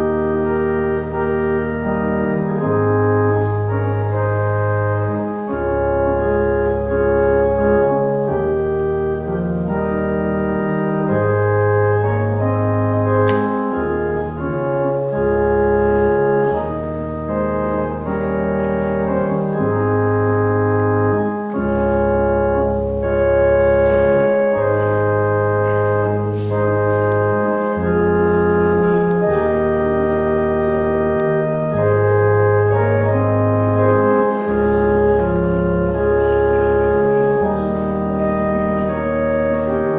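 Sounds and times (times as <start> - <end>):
church organ playing chords: 0.0 - 39.9.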